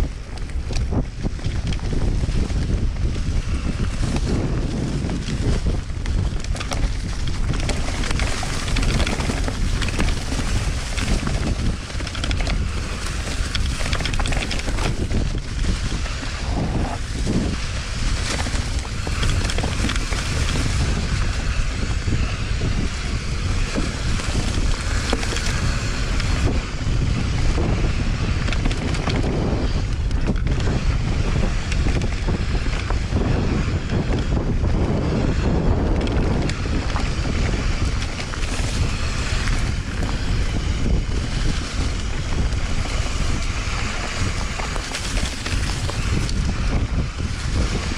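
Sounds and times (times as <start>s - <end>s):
small rattles: 0.0s - 34.6s, 35.2s - 47.9s
wind buffeting microphone: 0.0s - 47.9s.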